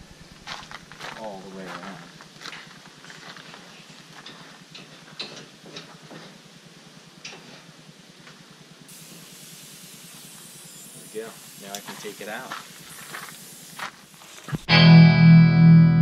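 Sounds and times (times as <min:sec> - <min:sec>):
faint steady hiss: 0:00.0 - 0:14.6.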